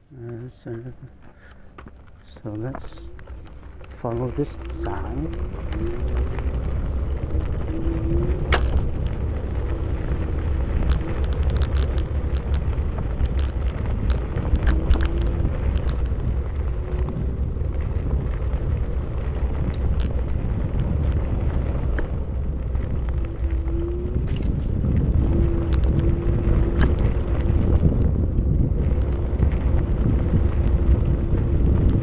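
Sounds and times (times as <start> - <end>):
vehicle riding along trail: 0.0 - 32.0
wind rumbling on microphone: 0.0 - 32.0.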